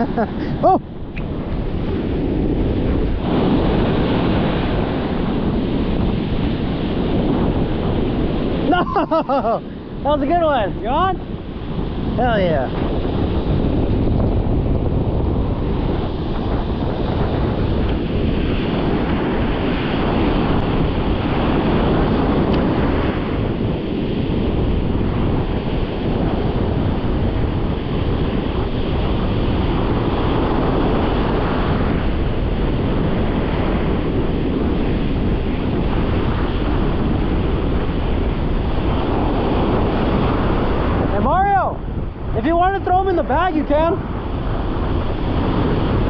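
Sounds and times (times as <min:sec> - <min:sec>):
ocean surf breaking: 0:00.0 - 0:46.0
wind buffeting microphone: 0:00.0 - 0:46.0.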